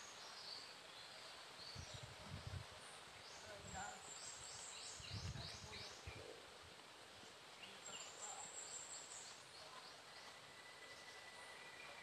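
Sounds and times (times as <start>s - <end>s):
faint small bird song: 0.0s - 12.0s.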